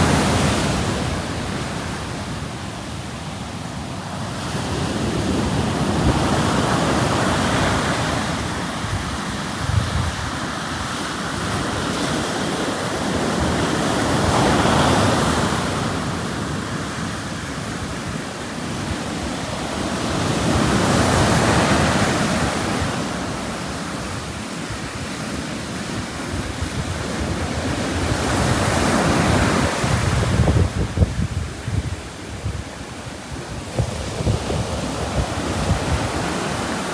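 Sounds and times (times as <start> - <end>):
sea waves breaking on a beach: 0.0 - 36.9.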